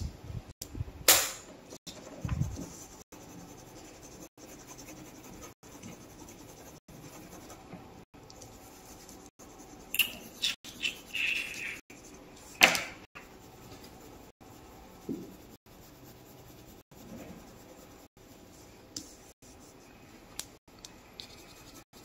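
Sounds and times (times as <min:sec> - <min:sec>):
pencil scratching on paper: 0:01.9 - 0:19.9, 0:21.2 - 0:22.0.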